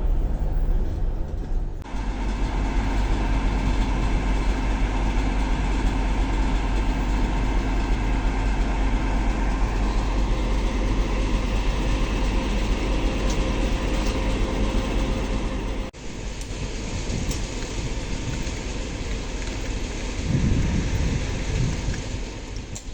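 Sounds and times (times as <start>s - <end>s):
idling train rumble and hum: 0.0s - 22.9s.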